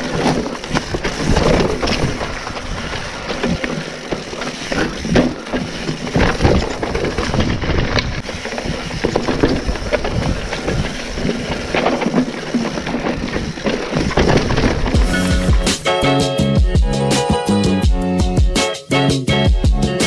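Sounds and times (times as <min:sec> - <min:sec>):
bike knocking and rattling: 0:00.0 - 0:17.0
bike tyres on dirt and leaves: 0:00.0 - 0:17.0.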